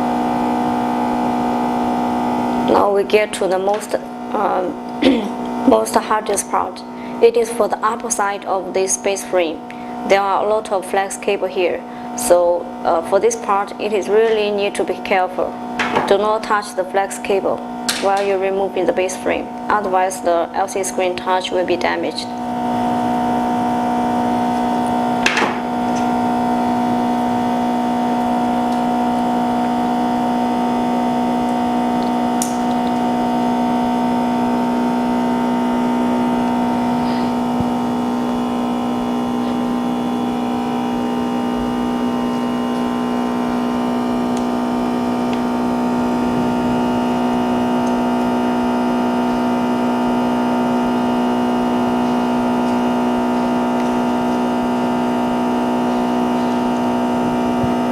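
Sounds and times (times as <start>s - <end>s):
loud steady machine hum: 0.0s - 57.9s.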